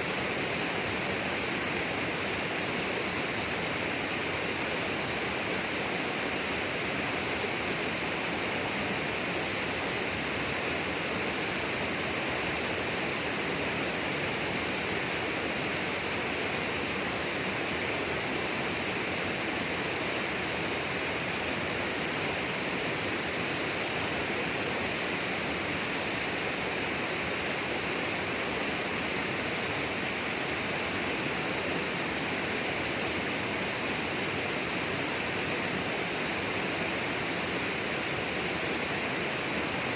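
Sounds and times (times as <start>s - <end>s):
flowing water rushing: 0.0s - 39.9s
high hiss: 0.0s - 39.9s.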